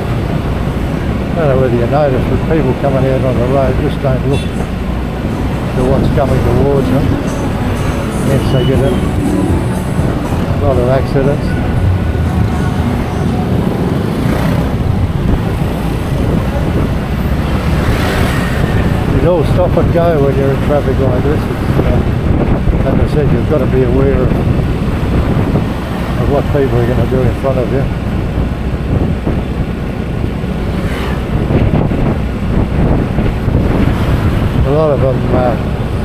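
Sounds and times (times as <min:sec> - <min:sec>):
motorbike engine rumble: 0:00.0 - 0:36.0
road and wind noise: 0:00.0 - 0:36.0
surrounding traffic: 0:00.0 - 0:36.0.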